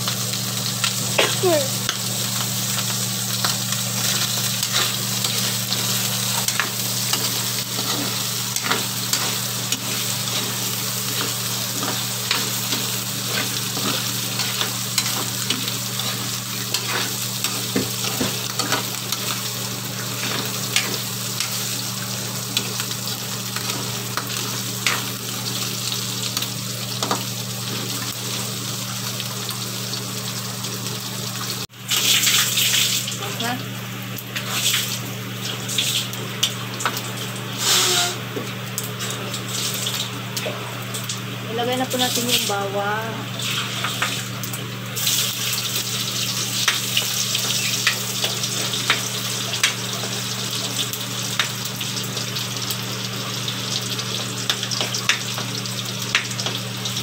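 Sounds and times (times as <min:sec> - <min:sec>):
meat sizzling in a wok: 0:00.0 - 0:57.0.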